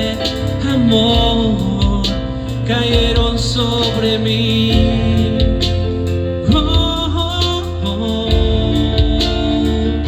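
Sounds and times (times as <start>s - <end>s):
guitar: 0.0s - 10.0s
pulsing bass: 0.0s - 10.0s
sustained chords: 0.0s - 10.0s.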